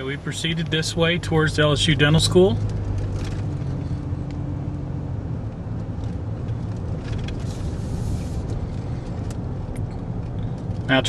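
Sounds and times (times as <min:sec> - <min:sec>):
car engine hum: 0:00.0 - 0:11.0
tyre and road noise: 0:00.0 - 0:11.0.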